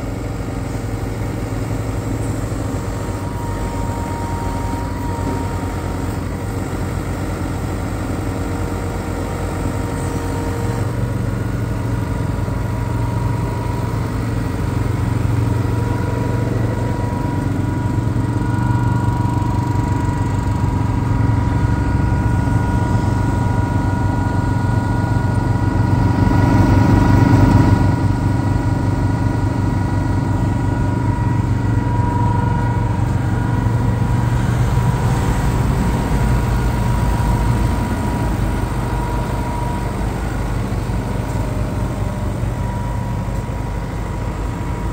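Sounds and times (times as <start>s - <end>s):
steady whine: 0.0s - 44.9s
tractor diesel engine idling: 0.0s - 44.9s.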